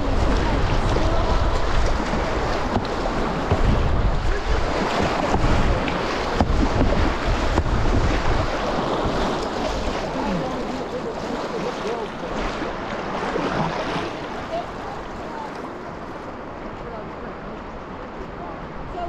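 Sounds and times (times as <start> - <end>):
sharp water splashes: 0.0 - 16.5
rushing whitewater: 0.0 - 19.0
wind rumbling on microphone: 0.0 - 19.0.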